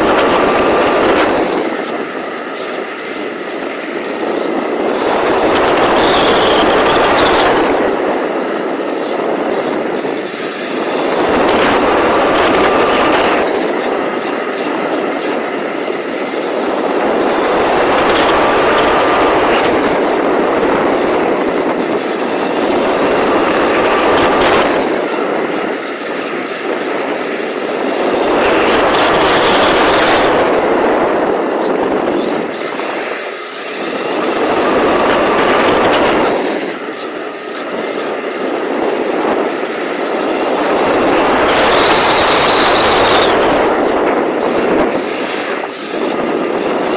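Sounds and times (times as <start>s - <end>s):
motor high whine: 0.0s - 46.9s
rattling drivetrain and tyres: 0.0s - 46.9s.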